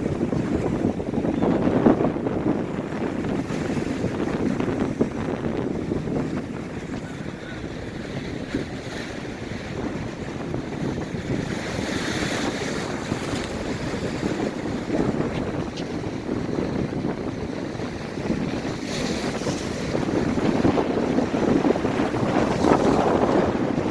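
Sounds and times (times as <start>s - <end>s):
surf breaking on beach: 0.0s - 23.9s
wind buffeting microphone: 0.0s - 23.9s.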